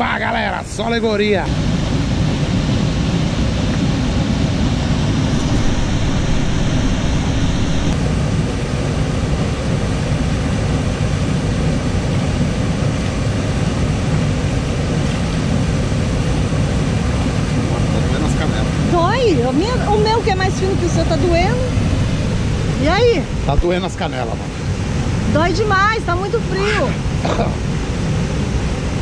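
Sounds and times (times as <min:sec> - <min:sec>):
waterfall roaring: 0:01.5 - 0:29.0.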